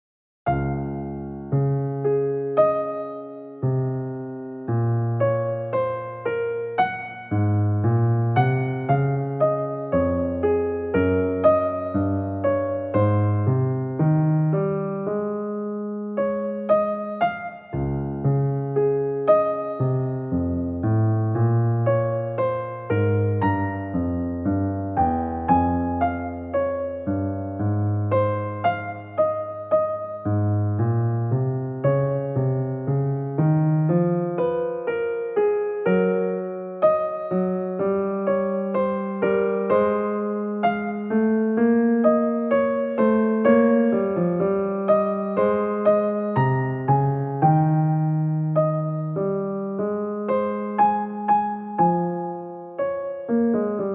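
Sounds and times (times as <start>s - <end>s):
piano piece: 0.4s - 53.9s.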